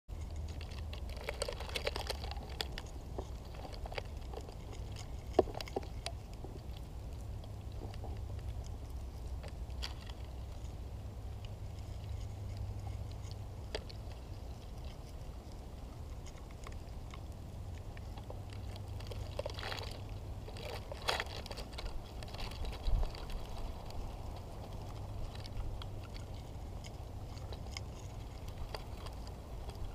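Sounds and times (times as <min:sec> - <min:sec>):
animal rustling in dry grass: 0:00.1 - 0:29.9
low rumble: 0:00.1 - 0:29.9.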